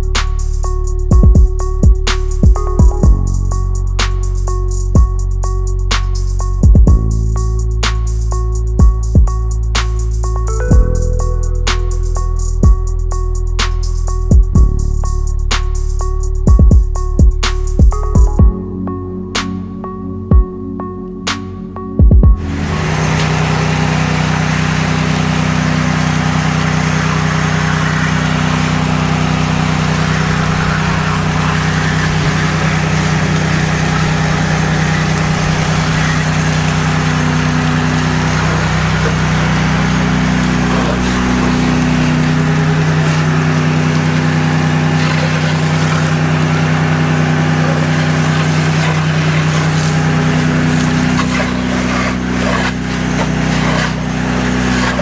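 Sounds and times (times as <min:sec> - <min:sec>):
pressure washer engine running: 0:00.0 - 0:18.4, 0:22.4 - 0:55.0.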